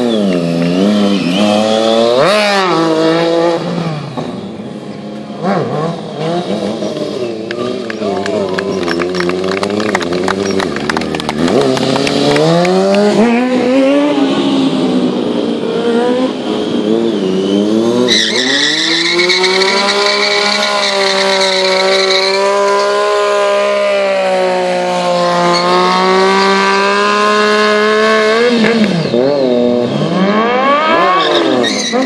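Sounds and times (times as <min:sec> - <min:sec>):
tyre squealing on asphalt: 0:00.0 - 0:14.7, 0:15.6 - 0:32.0
motorcycle engine revving: 0:00.0 - 0:32.0.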